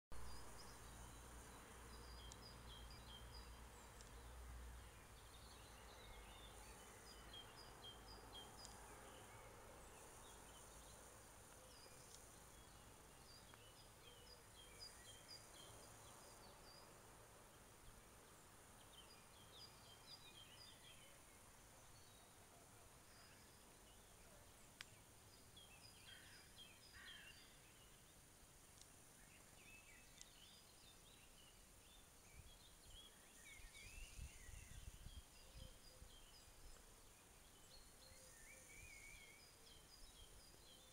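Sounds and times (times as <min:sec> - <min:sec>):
background hiss: 0:00.1 - 0:40.9
birds chirping: 0:00.2 - 0:40.9.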